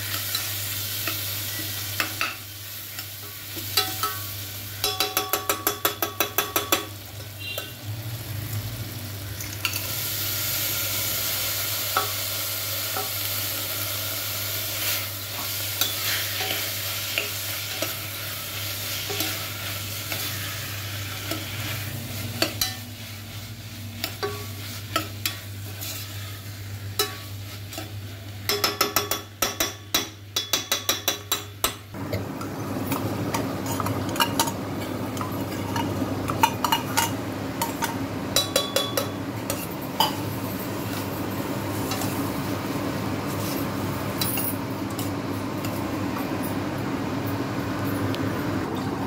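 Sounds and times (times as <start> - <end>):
masala sizzling: 0.0 - 49.0.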